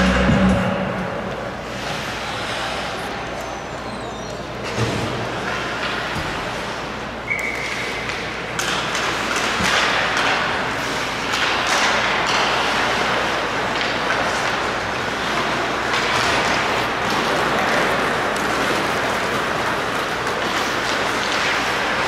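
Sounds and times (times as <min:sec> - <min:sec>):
skates scraping on ice: 0:01.2 - 0:03.8, 0:04.5 - 0:22.0.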